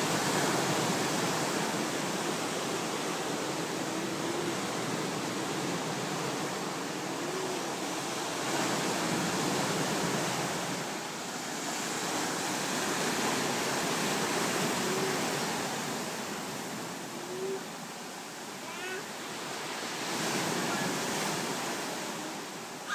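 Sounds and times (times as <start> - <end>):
sea waves washing on shore: 0.0 - 22.9.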